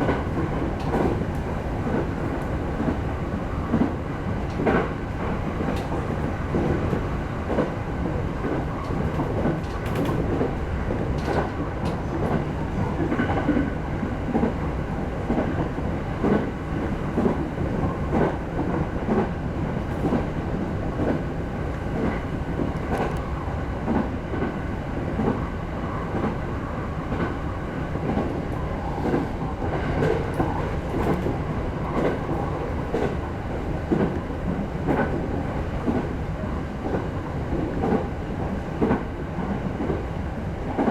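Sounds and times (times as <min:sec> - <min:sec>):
electric train rumbling: 0:00.0 - 0:40.9.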